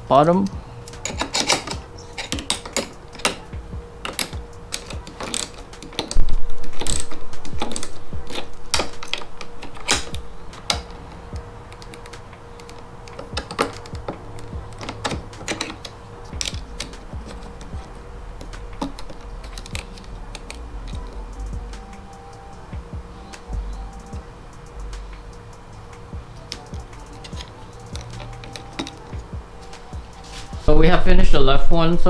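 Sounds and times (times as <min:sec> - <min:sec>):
hand ratchet clicking: 0:00.0 - 0:30.8
small tools tapping: 0:00.1 - 0:30.7.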